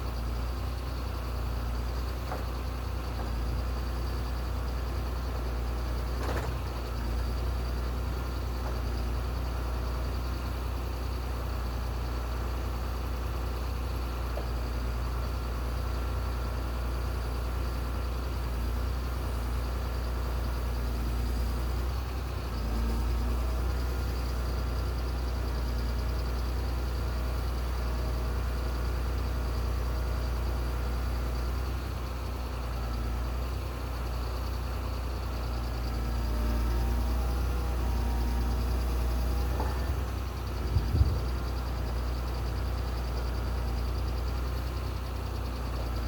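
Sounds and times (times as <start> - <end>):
heavy engine rumbling: 0.0 - 46.0.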